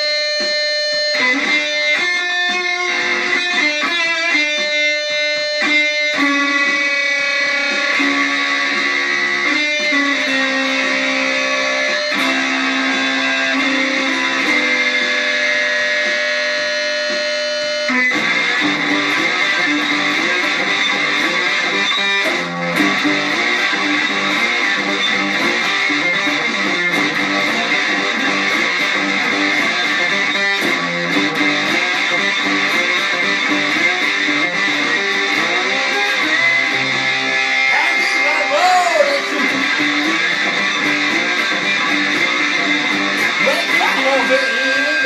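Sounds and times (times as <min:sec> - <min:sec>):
plucked and strummed guitar: 0:00.0 - 0:45.0.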